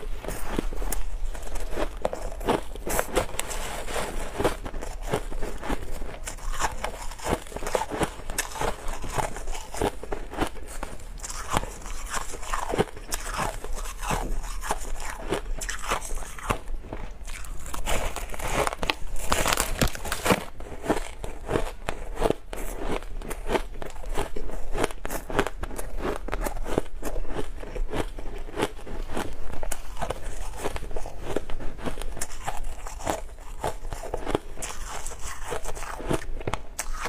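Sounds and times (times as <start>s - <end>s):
crushed ice being chewed: 0.0s - 37.0s.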